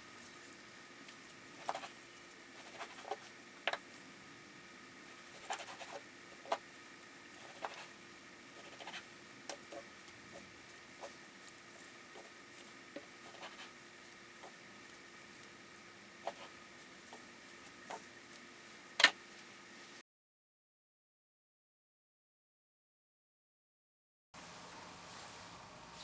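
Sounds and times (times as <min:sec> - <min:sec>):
faint steady hum: 0:00.0 - 0:20.0, 0:24.4 - 0:26.0.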